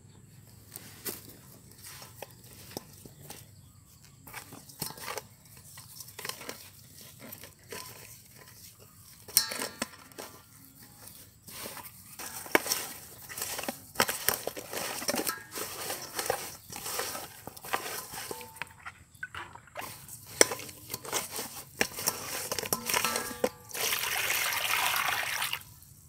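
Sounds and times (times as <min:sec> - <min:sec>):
hands scrubbing fish with salt: 0:04.2 - 0:09.5, 0:10.1 - 0:25.9.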